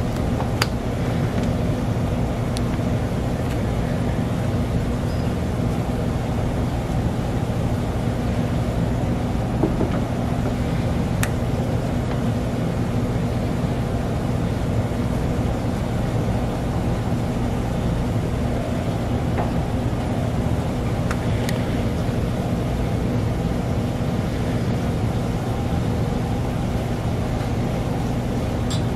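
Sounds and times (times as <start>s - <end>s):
low machine hum: 0.0s - 28.9s.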